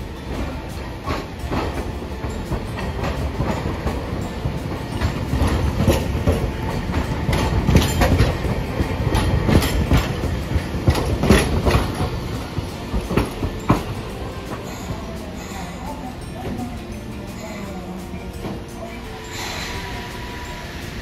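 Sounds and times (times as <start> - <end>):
tram wheels clacking over track joints: 0.0 - 21.0.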